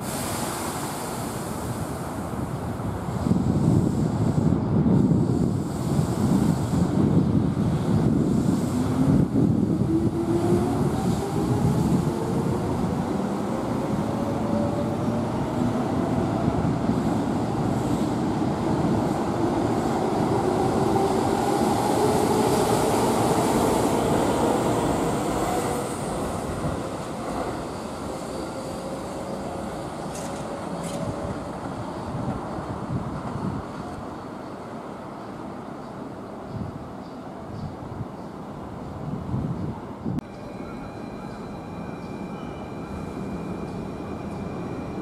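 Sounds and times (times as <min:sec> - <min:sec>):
wheels rumbling on rail: 0:00.0 - 0:37.2.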